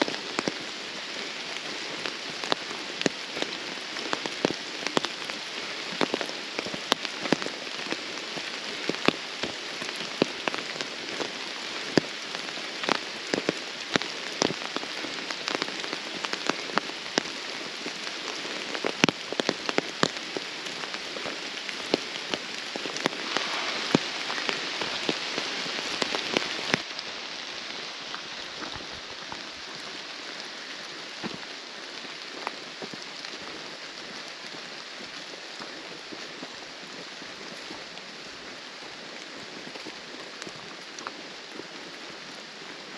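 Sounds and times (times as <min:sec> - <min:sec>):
raindrop hits: 0:00.0 - 0:37.1
rain hissing: 0:00.0 - 0:42.9.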